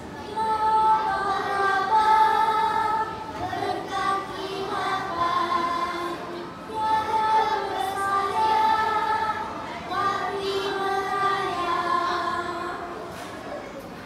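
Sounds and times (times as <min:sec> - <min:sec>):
children singing in unison: 0:00.0 - 0:13.3.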